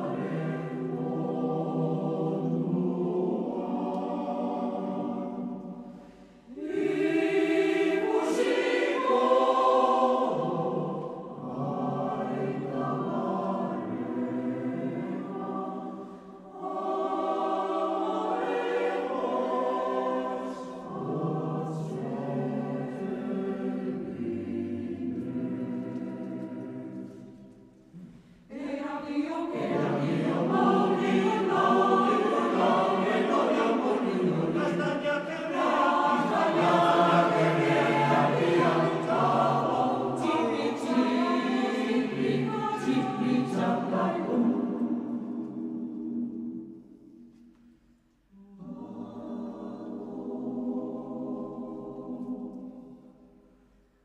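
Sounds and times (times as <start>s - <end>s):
choir singing held phrases: 0.0s - 54.0s.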